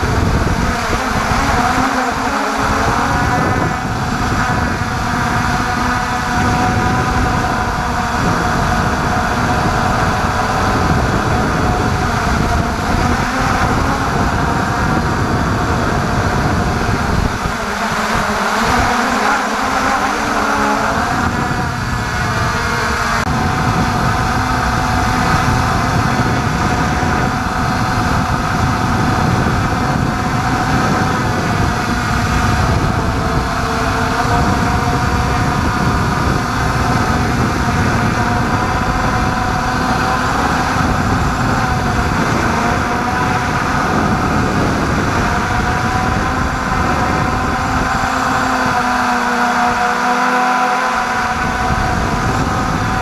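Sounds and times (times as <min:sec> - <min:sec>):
drone propellers whining: 0:00.0 - 0:53.0
low wind rumble: 0:00.0 - 0:53.0.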